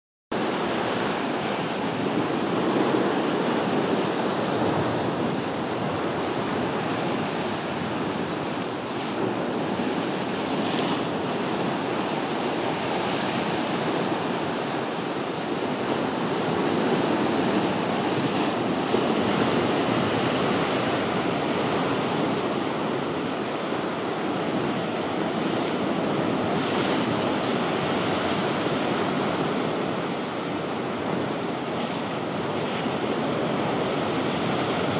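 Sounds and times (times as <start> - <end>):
sea waves washing over rocks: 0.4 - 34.9.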